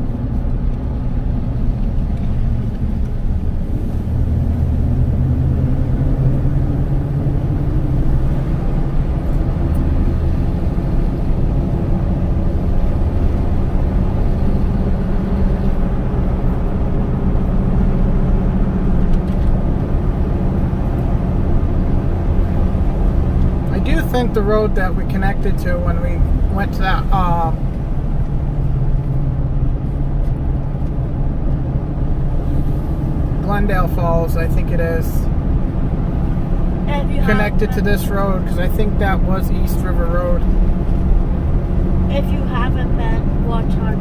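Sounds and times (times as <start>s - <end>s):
car engine and tyres rumbling: 0.0s - 44.0s.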